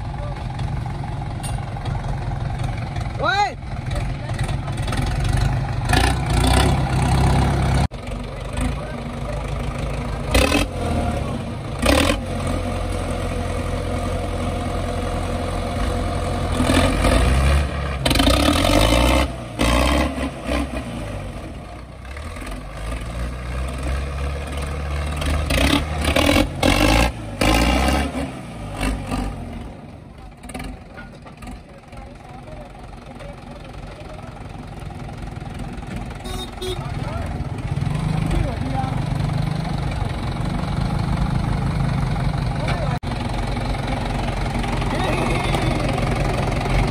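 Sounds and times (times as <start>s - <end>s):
tractor diesel engine revving: 0.0s - 46.9s.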